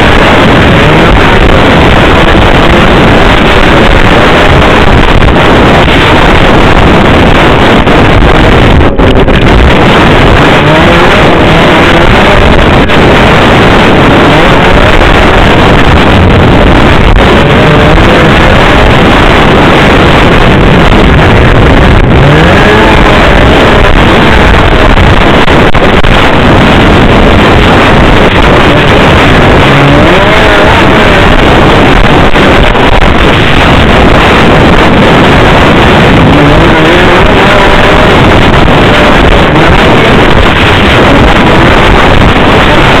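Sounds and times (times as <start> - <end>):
snowmobile engine running: 0.0 - 43.0.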